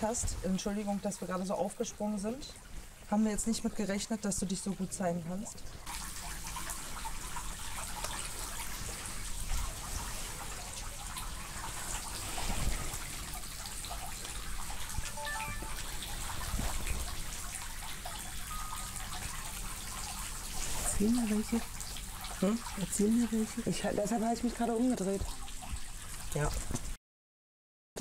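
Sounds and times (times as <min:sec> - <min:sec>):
fountain water trickling and splashing: 0:00.0 - 0:27.0.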